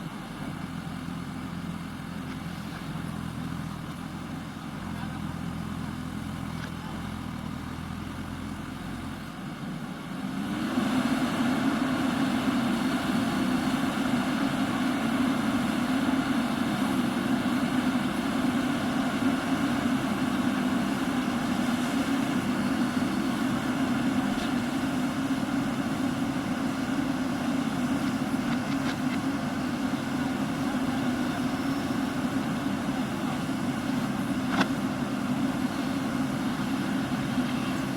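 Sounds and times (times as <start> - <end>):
diesel engine idling and revving: 0.0 - 37.9.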